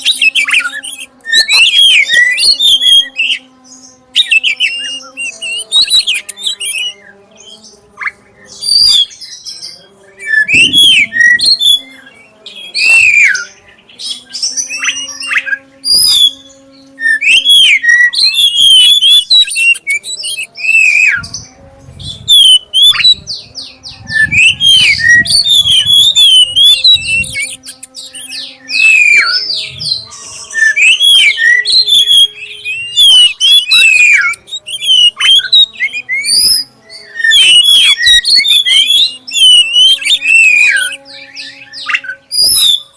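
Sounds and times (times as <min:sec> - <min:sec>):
bird singing whistles and trills: 0:00.0 - 0:42.9.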